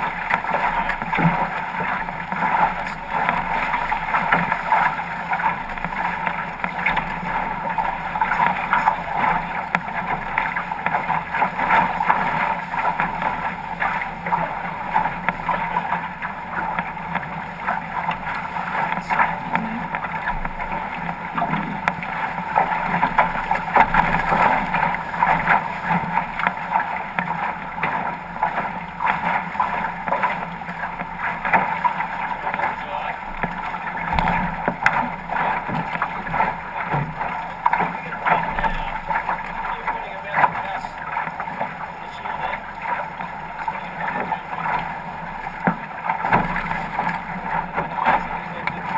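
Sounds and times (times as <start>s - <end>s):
water rushing along hull: 0.0s - 48.9s.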